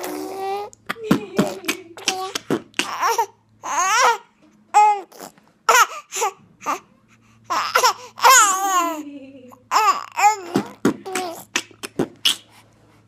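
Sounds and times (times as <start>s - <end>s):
baby laughing and babbling: 0.0s - 6.9s, 7.5s - 12.5s.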